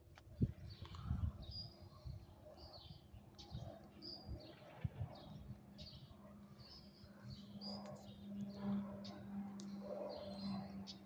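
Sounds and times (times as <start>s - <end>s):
small birds chirping: 0.4s - 11.0s.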